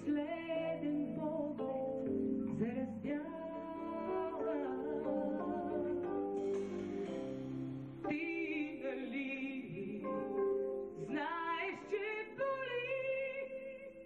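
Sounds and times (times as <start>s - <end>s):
woman singing into microphone: 0.0s - 6.3s, 8.0s - 14.0s.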